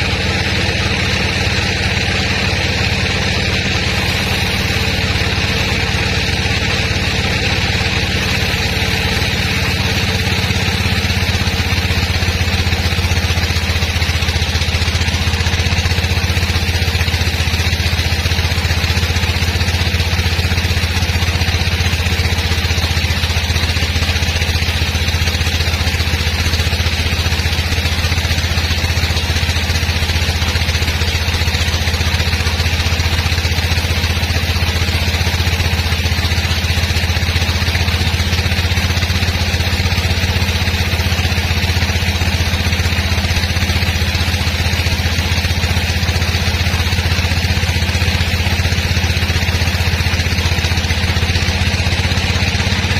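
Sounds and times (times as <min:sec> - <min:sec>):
sawmill machinery humming: 0:00.0 - 0:52.9.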